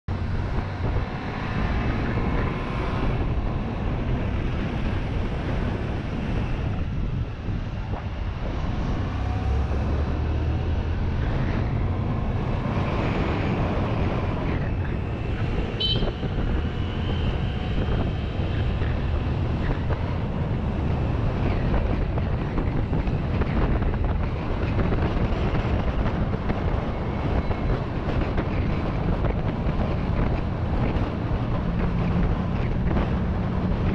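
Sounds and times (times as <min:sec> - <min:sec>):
wind rushing over microphone: 0:00.1 - 0:33.9.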